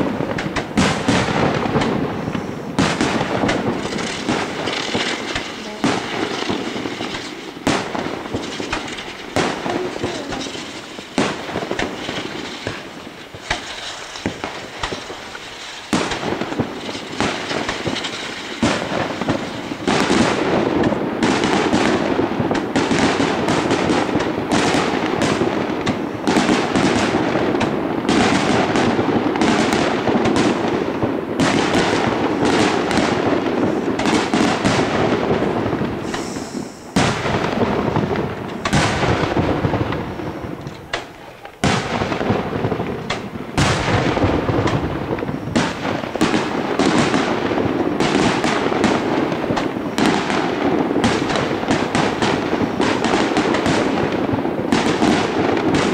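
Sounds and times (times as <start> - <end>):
fireworks bangs and crackle: 0.0 - 55.9.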